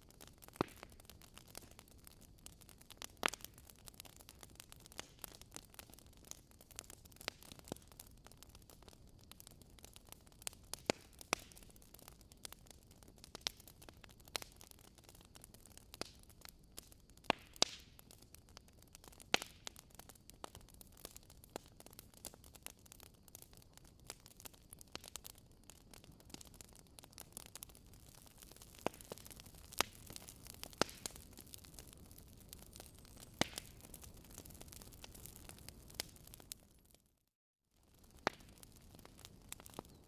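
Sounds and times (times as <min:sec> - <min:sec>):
wood fire crackling: 0:00.0 - 0:37.0, 0:37.8 - 0:40.0.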